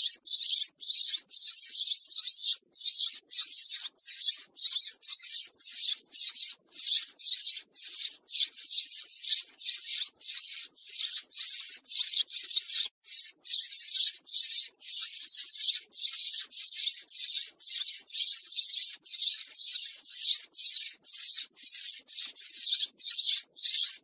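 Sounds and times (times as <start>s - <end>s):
sparrow chirping: 0.0s - 24.0s.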